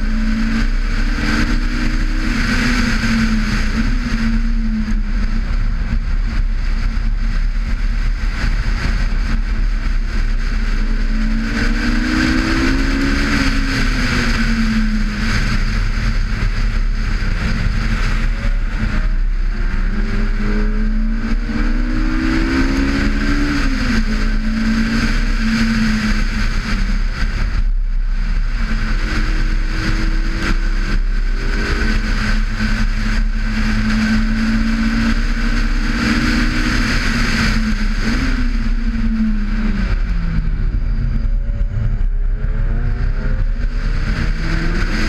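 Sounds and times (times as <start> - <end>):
car engine at high revs: 0.0 - 45.0
wind rumble: 0.0 - 45.0.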